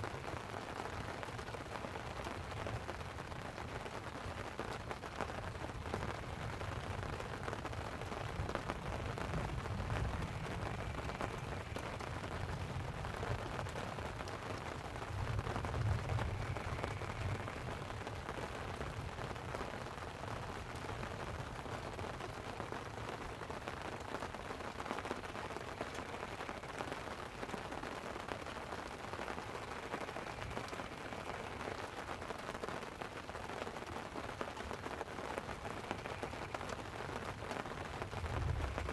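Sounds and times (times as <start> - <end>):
light rain pattering on a tent: 0.0 - 38.9.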